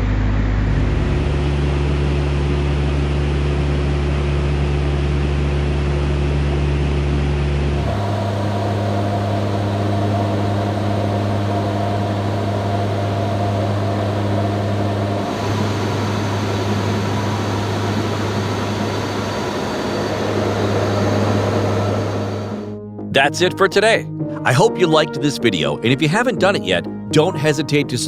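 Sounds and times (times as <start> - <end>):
helicopter turbine and rotor drone: 0.0 - 22.8.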